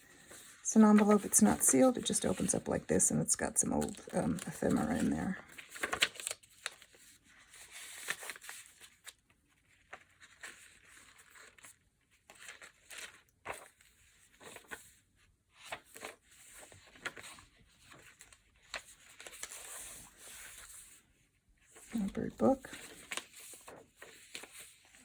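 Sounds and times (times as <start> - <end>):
paper rustling and crinkling: 3.8 - 25.0.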